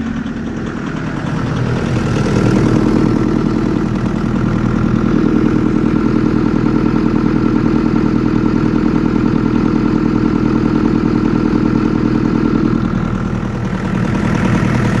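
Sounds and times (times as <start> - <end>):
engine idling with tapping: 0.0 - 15.0.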